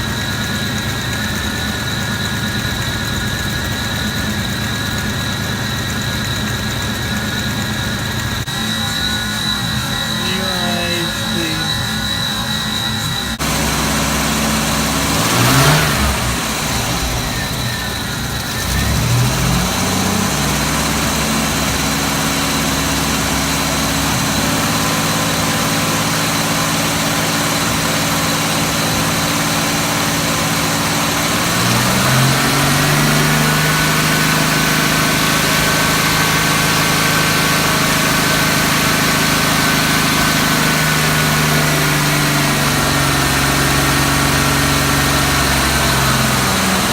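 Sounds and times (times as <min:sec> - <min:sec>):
car engine idling with misfire: 0:00.0 - 0:46.9.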